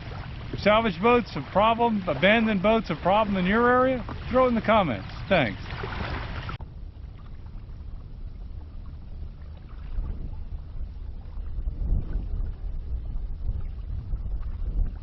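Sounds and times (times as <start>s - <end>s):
faint water sounds: 0.0s - 15.0s
wind rumble on microphone: 0.0s - 15.0s.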